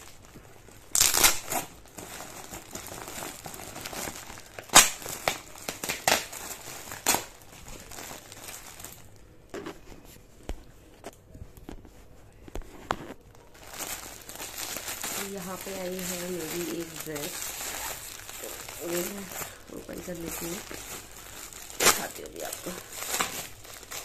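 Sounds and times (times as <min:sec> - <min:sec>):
packaging being torn and crinkled: 0:00.0 - 0:09.2, 0:13.4 - 0:24.0.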